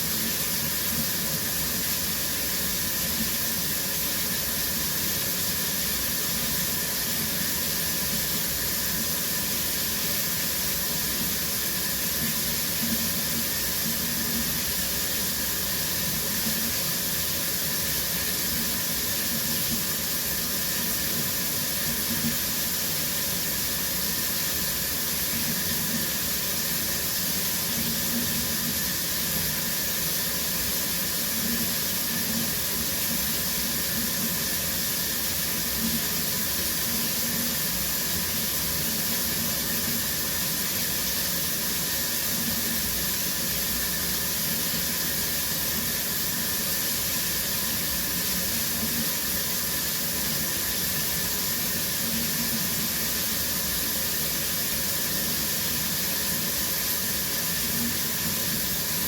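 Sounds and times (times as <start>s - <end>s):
shower water hissing: 0.0s - 59.0s.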